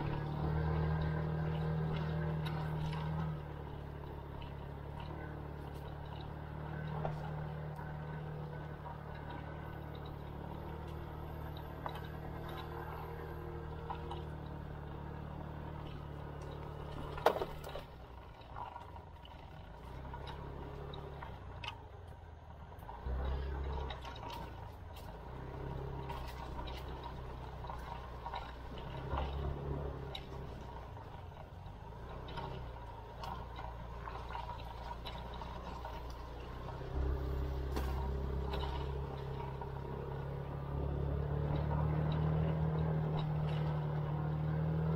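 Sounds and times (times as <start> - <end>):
scooter engine humming: 0.0 - 44.9.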